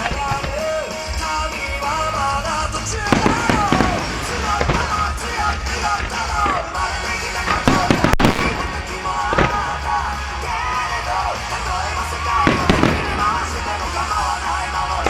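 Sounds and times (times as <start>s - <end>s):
fireworks bursting: 0.0s - 15.0s
pop-rock music with singing: 0.0s - 15.0s.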